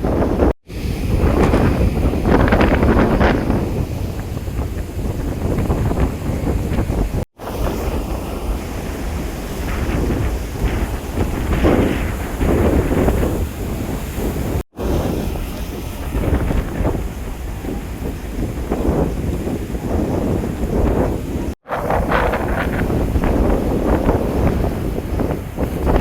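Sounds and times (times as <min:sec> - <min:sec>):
rough sea: 0:00.0 - 0:26.0
wind buffeting microphone: 0:00.0 - 0:26.0.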